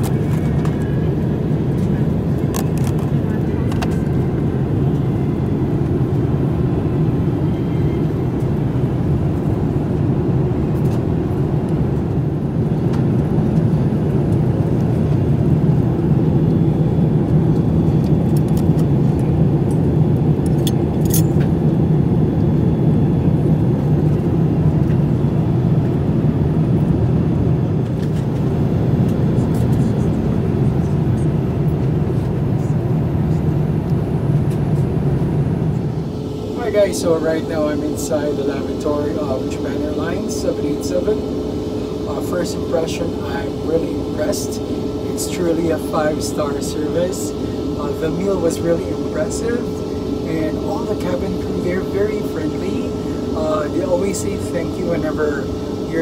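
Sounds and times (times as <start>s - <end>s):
airplane cabin noise: 0.0s - 56.0s.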